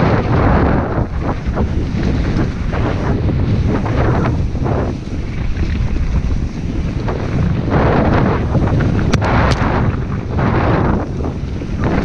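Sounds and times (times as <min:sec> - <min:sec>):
bike tyres rumbling on dirt trail: 0:00.0 - 0:12.0
wind rushing over microphone: 0:00.0 - 0:12.0.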